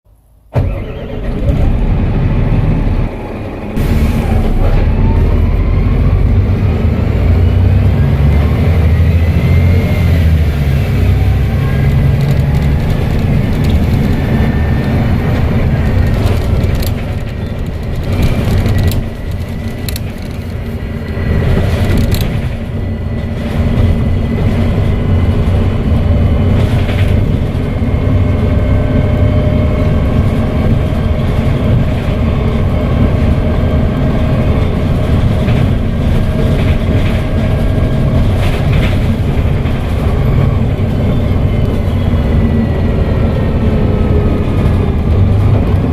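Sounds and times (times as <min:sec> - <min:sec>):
bus diesel engine under load: 0:00.1 - 0:45.9.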